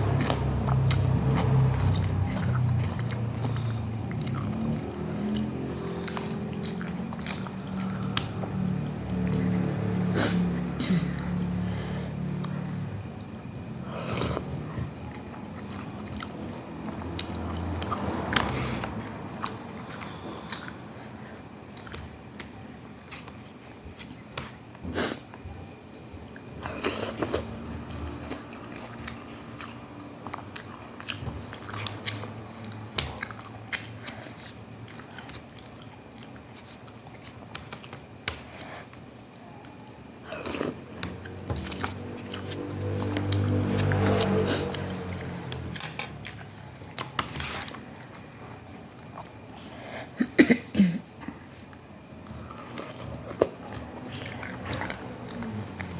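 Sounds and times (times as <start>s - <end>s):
person chewing noodles: 0.0s - 50.2s, 51.1s - 55.9s.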